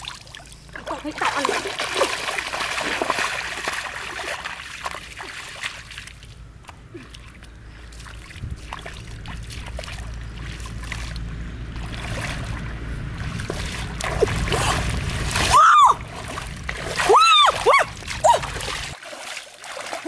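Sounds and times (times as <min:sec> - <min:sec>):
low steady rumble: 0:00.0 - 0:19.0
water splashing and sloshing: 0:00.0 - 0:20.0.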